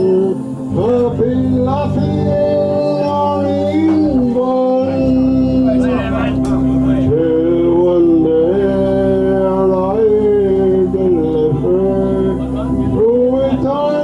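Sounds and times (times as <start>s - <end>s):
man singing a slow ballad: 0.0s - 14.0s
sustained accompaniment tone: 0.0s - 14.0s.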